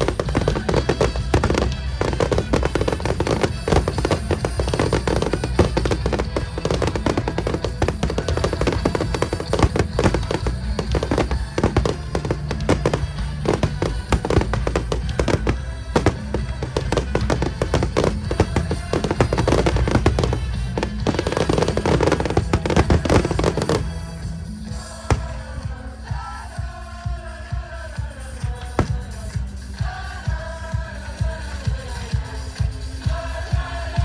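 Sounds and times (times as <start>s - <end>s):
fireworks bangs and crackles: 0.0s - 26.2s, 28.2s - 30.3s
music playing: 0.0s - 34.0s.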